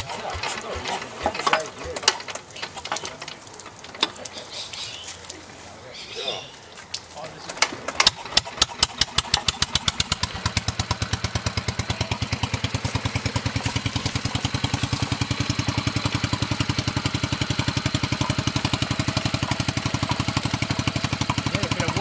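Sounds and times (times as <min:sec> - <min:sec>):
single-cylinder engine running: 0:00.0 - 0:04.9, 0:07.3 - 0:22.0
water pump: 0:00.0 - 0:22.0.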